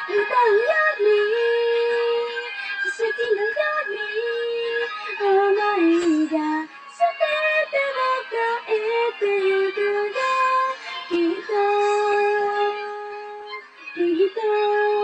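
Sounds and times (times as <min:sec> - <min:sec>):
karaoke backing track: 0:00.0 - 0:15.0
woman singing pop song: 0:00.0 - 0:15.0.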